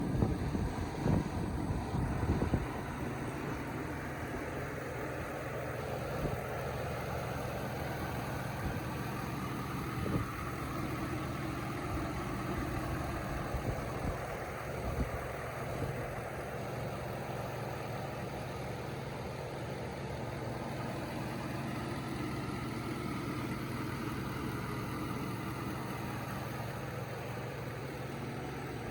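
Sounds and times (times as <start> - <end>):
pickup engine idling: 0.0 - 28.9.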